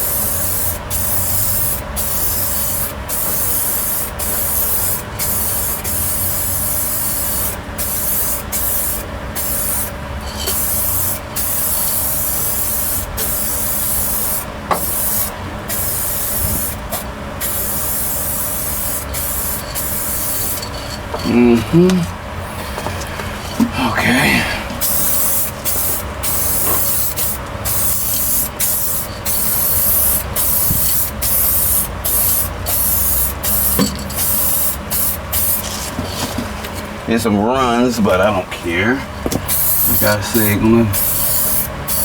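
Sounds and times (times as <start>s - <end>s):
aerosol spray paint hissing: 0.0s - 21.3s, 24.8s - 35.8s, 39.4s - 42.0s.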